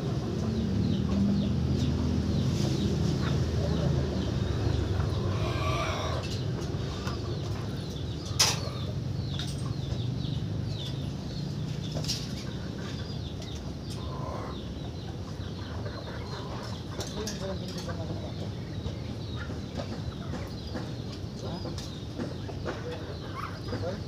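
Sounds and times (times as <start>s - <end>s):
chickens clucking: 0.0s - 24.0s
small birds chirping: 0.0s - 24.0s.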